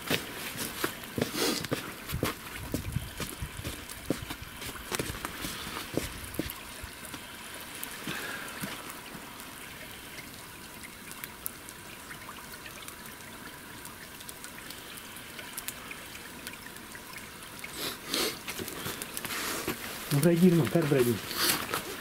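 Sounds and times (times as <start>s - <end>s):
campfire coals hissing: 0.0s - 22.0s
small fire crackles: 0.0s - 22.0s.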